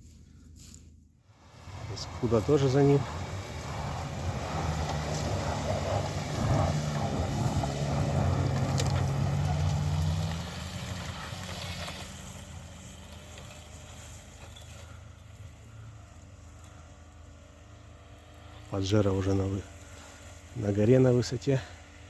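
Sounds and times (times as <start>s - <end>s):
suv engine pulling under load: 1.4s - 20.6s.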